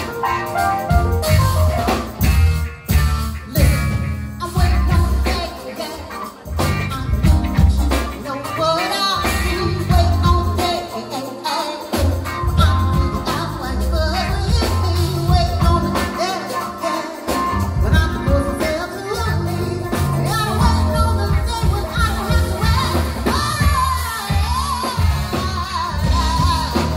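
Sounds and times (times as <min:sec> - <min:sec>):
soul band playing: 0:00.0 - 0:26.9
woman singing: 0:04.4 - 0:26.9.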